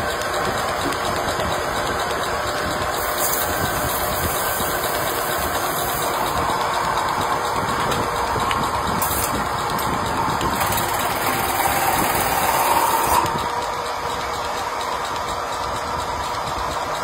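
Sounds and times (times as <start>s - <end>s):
metal-spinning lathe running: 0.0s - 17.0s.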